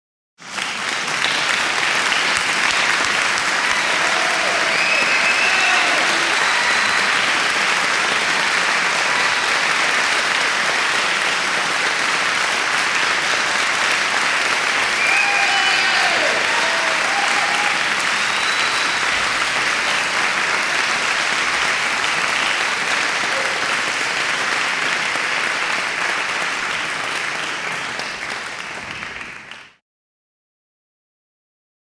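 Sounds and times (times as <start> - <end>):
crowd applauding: 0.4 - 29.8.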